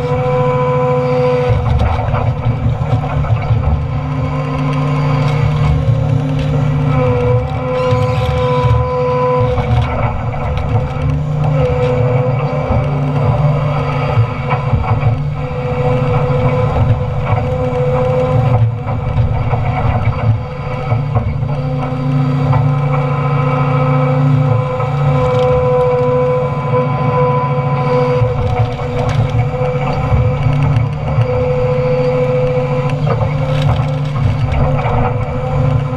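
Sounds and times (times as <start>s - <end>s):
excavator diesel engine under load: 0.0s - 35.9s
hydraulic whine: 0.0s - 35.9s
timber cracking and snapping: 1.5s - 23.2s, 28.1s - 35.9s.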